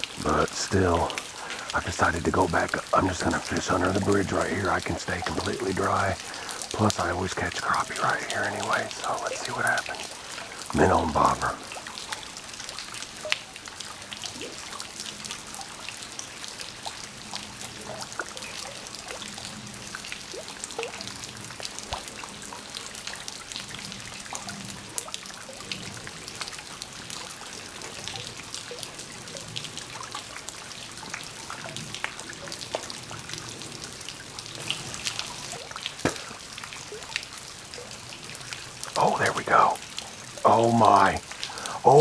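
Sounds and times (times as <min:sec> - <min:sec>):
light rain on water: 0:00.0 - 0:42.0.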